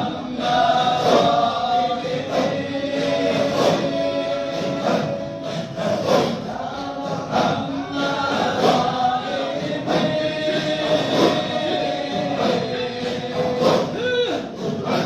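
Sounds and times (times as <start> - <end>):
group of voices chanting: 0.0 - 15.0.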